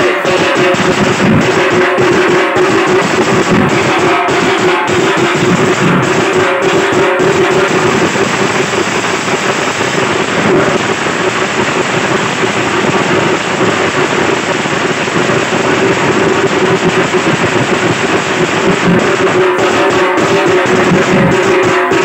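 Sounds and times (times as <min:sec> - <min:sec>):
large band drums: 0:00.0 - 0:22.0
snare drum: 0:00.0 - 0:22.0.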